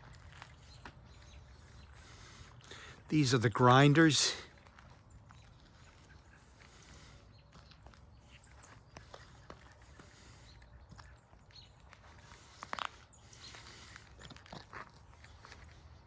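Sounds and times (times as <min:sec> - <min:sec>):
footsteps outdoors: 0:00.0 - 0:16.0.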